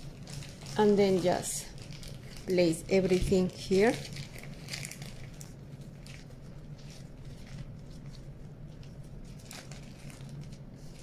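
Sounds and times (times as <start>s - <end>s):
dough squishing: 0.0s - 11.0s
plastic bag rustling: 0.0s - 11.0s
steady low hum: 0.0s - 11.0s.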